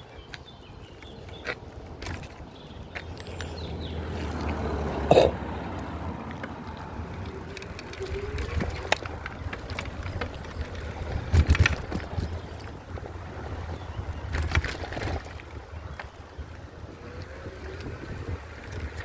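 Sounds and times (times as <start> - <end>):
bike rattles and clicks: 0.0 - 19.0
bike tyres rumbling on rough ground: 0.0 - 19.0
bike jolting: 1.0 - 19.0.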